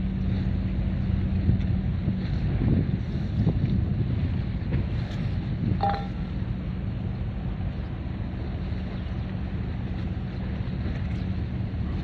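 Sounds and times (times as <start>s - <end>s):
choppy water: 0.0s - 12.0s
wind rumbling on microphone: 0.0s - 12.0s.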